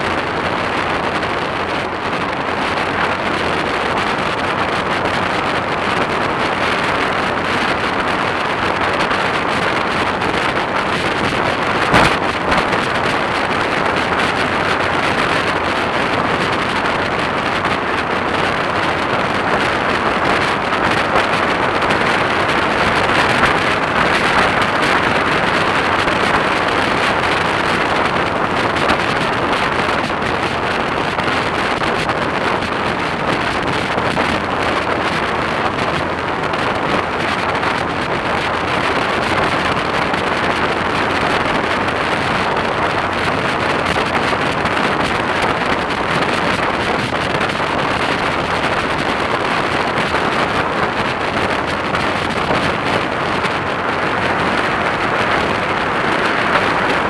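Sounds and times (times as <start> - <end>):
road noise: 0.0 - 57.0
wind rush on microphone: 0.0 - 57.0.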